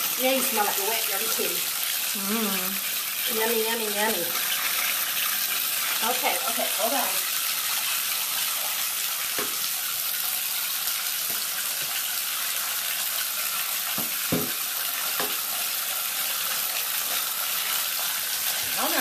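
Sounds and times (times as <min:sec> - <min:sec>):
water running into bathtub: 0:00.0 - 0:19.0.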